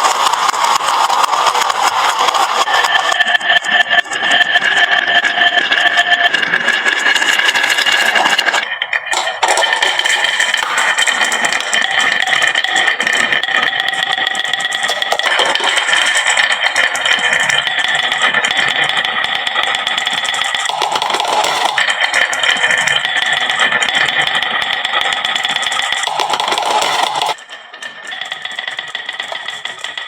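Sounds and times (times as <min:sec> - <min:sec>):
marbles clattering down wooden run: 0:04.5 - 0:30.0.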